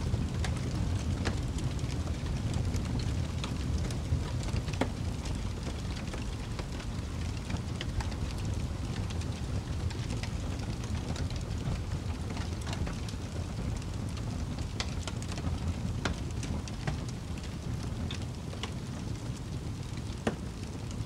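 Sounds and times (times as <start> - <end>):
logs crackling and popping: 0.0 - 21.0
low rumble of flames: 0.0 - 21.0.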